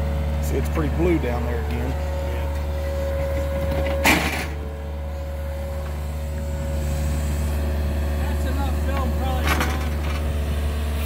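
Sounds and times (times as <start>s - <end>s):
excavator diesel engine running: 0.0s - 11.0s
steady whine: 0.0s - 11.0s.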